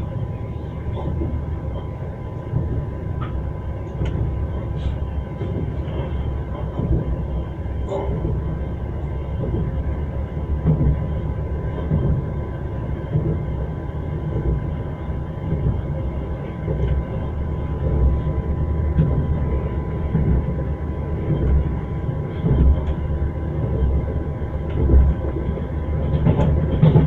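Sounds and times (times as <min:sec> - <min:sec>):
train wheels clattering on rails: 0:02.4 - 0:27.0.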